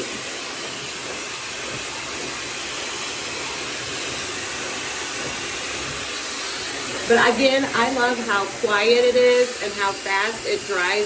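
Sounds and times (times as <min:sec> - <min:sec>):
hair dryer blowing air: 0:00.0 - 0:11.0.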